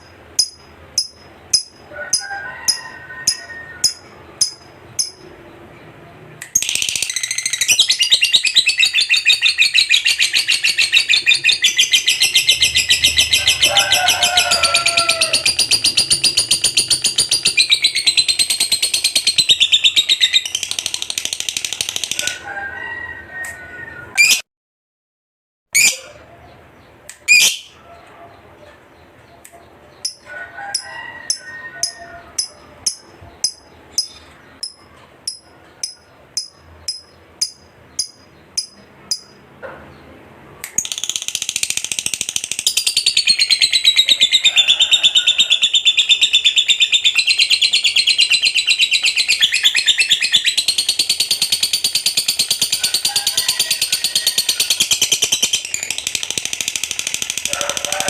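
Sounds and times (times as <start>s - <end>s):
lovebird calling and chattering: 0.0s - 5.8s, 6.4s - 22.3s, 25.8s - 27.8s, 29.0s - 39.5s, 40.7s - 58.0s.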